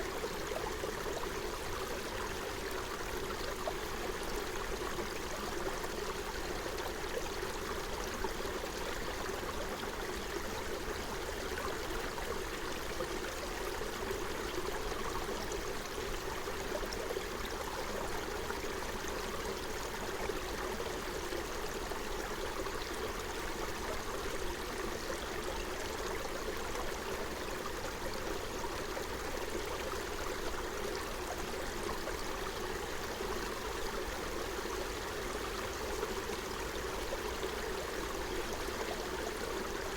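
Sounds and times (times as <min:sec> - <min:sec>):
stream flowing over stones: 0:00.1 - 0:39.9.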